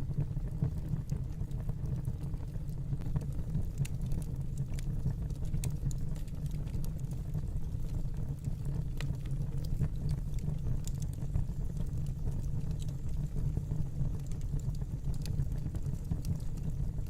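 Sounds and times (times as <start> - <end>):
fire burning rumble: 0.0 - 17.0
fire crackles and pops: 0.0 - 17.0.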